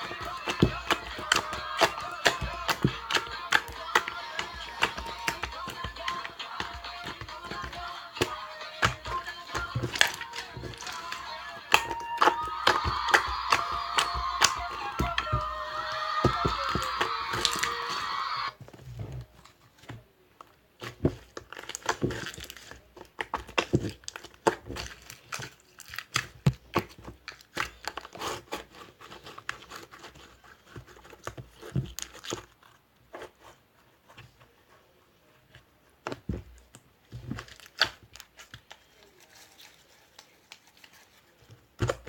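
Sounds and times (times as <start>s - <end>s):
crinkling and rustling: 0.0s - 42.0s.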